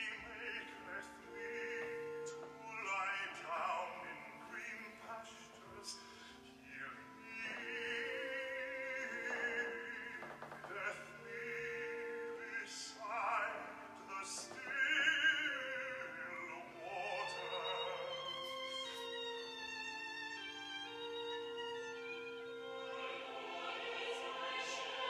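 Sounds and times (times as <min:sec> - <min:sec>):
classical solo singing with vibrato: 0:00.0 - 0:21.0, 0:21.8 - 0:25.0
sustained instrumental accompaniment: 0:00.0 - 0:25.0.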